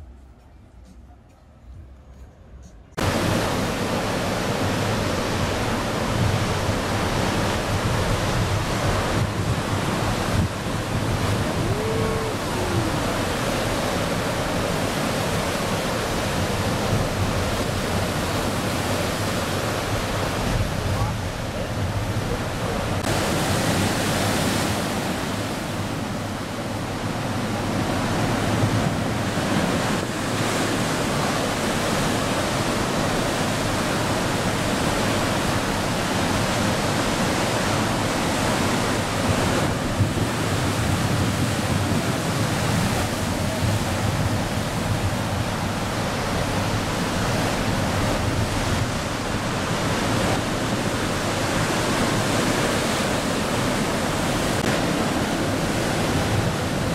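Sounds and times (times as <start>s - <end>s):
wind rumbling on microphone: 0.0s - 56.9s
ocean waves breaking: 3.0s - 56.9s.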